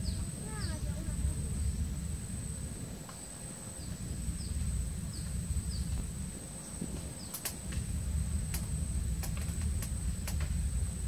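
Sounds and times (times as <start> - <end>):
steady high-pitched whine: 0.0 - 11.0
wind rumbling on microphone: 0.0 - 11.0.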